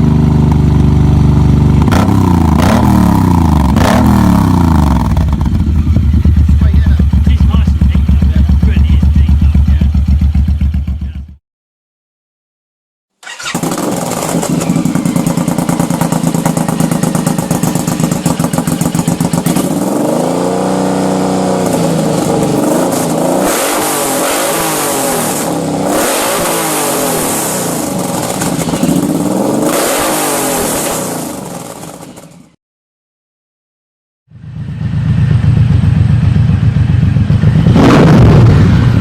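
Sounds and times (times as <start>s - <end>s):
motorcycle engine idling and revving: 0.0s - 11.4s, 13.2s - 32.6s, 34.3s - 39.0s.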